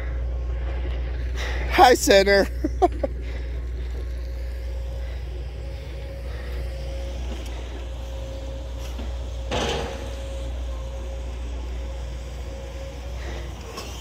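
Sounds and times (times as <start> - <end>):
constant engine whine: 0.0 - 14.0
distant diesel engine rumble: 0.0 - 14.0.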